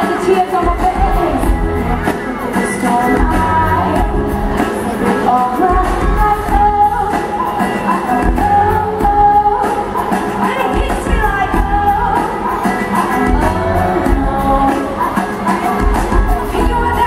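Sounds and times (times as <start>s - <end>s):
amplified band with bass beat: 0.0s - 17.0s
woman singing into microphone: 0.0s - 17.0s.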